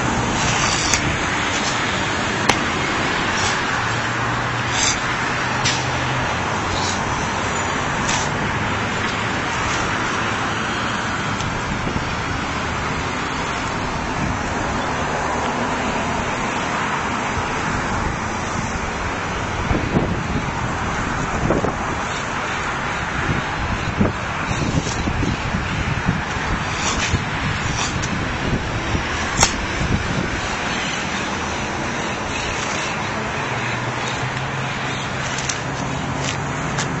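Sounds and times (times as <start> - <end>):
wind buffeting microphone: 0.0 - 15.2, 17.2 - 37.0
road traffic: 0.0 - 37.0.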